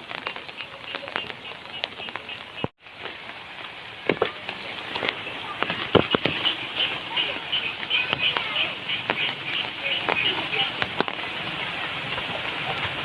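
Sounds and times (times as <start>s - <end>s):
rain drops on hard surface: 0.0s - 13.0s.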